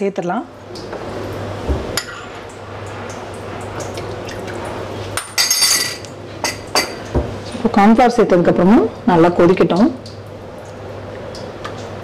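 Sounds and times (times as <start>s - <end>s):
soup bubbling in a pot: 0.6s - 7.5s, 9.0s - 12.0s.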